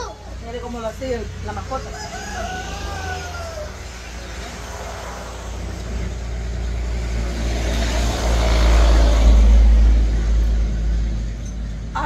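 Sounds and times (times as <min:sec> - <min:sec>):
motor vehicle passing by: 0:00.2 - 0:12.0.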